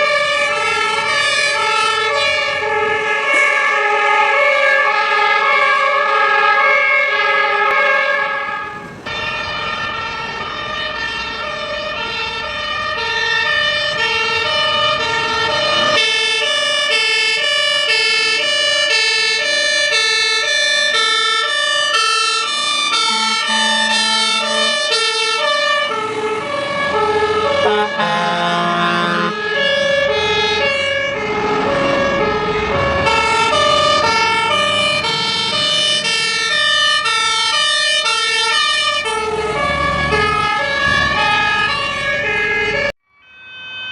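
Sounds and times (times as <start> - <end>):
fire engine two-tone sirens: 0.0 - 43.9.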